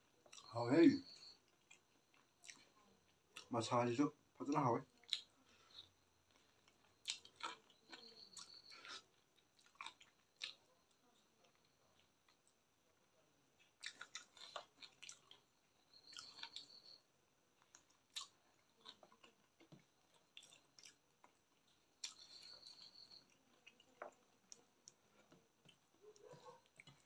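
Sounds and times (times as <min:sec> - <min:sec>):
faint close-up chewing: 0:00.0 - 0:03.6, 0:04.3 - 0:27.0.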